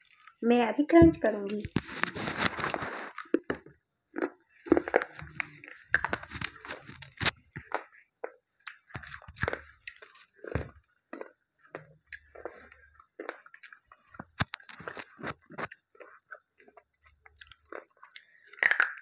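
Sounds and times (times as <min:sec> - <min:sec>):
slate pencils crunching when chewed: 0:01.5 - 0:19.0.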